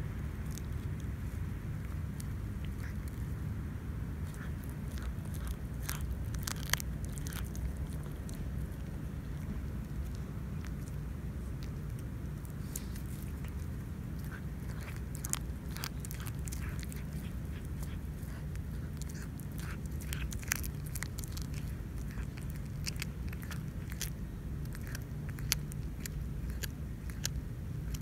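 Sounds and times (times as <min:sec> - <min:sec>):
cat chewing with wet crunches: 0:00.0 - 0:28.0
steady low hum: 0:00.0 - 0:28.0.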